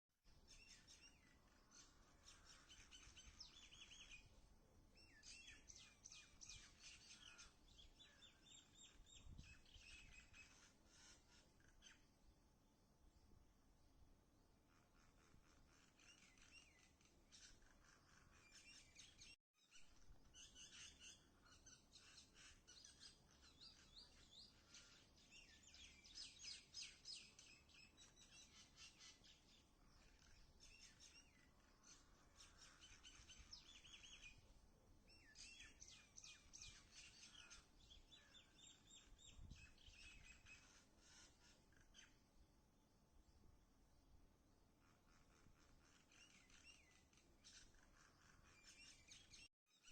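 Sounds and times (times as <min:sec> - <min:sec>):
small birds chirping: 0:00.2 - 0:49.9.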